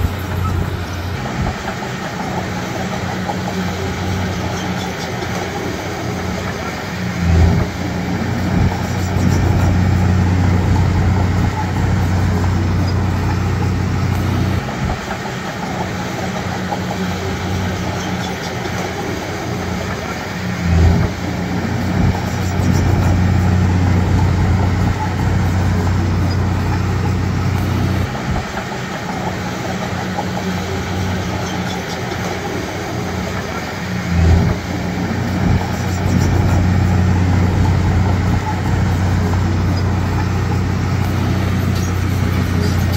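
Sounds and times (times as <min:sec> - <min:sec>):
bulldozer diesel engine: 0:00.0 - 0:42.9.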